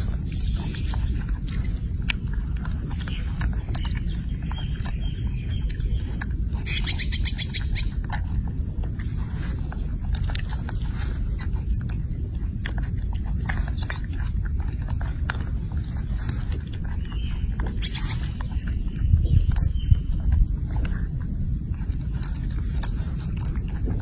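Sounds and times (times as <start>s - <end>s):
monkey chewing grapes: 0.0s - 24.0s
wind buffeting microphone: 0.0s - 24.0s.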